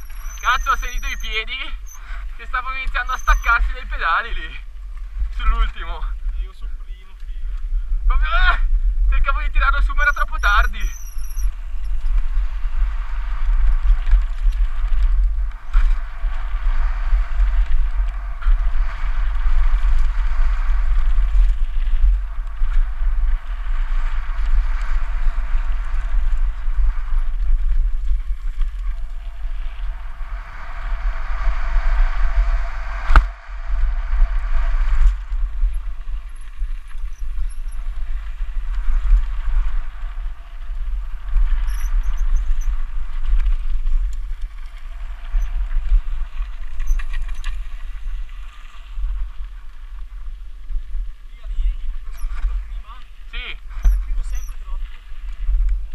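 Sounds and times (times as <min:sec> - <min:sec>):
bike rattling: 0:00.0 - 0:55.9
bike tyres rolling on gravel: 0:00.0 - 0:55.9
wind buffeting microphone: 0:00.0 - 0:55.9.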